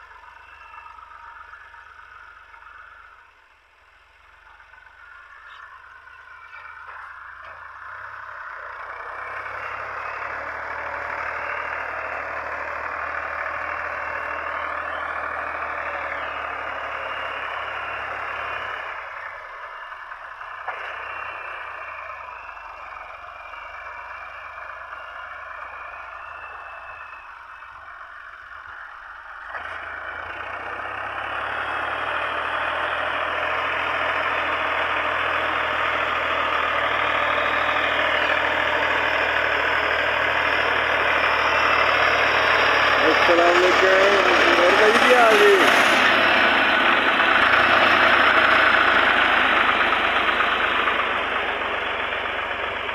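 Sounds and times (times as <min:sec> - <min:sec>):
tractor engine running under load: 0:00.0 - 0:52.9.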